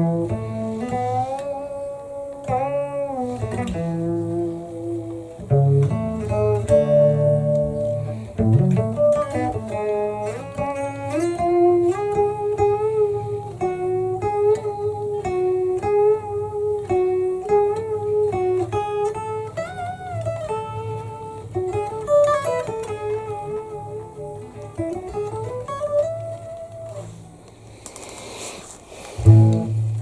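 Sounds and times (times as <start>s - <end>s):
electric guitar melody: 0.0s - 27.9s, 29.0s - 30.0s.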